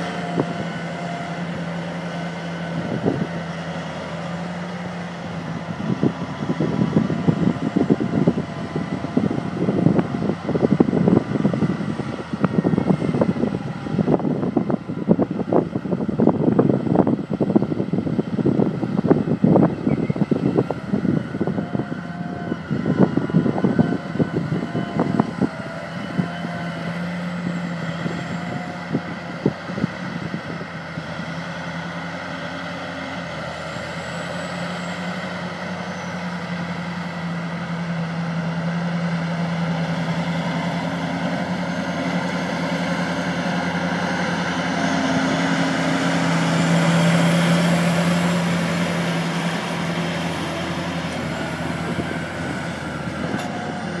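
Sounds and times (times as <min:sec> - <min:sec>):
wind buffeting microphone: 0:00.0 - 0:34.1, 0:35.8 - 0:54.0
tractor diesel engine under load: 0:00.0 - 0:54.0.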